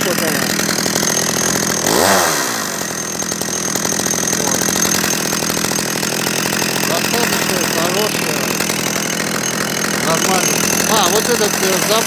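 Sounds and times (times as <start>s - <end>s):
chainsaw engine idling: 0.0s - 12.0s.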